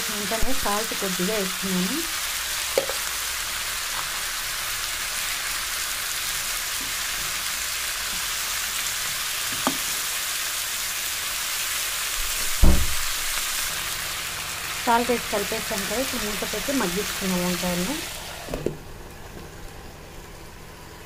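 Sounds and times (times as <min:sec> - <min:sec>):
eggplant sizzling in hot oil: 0:00.0 - 0:21.0.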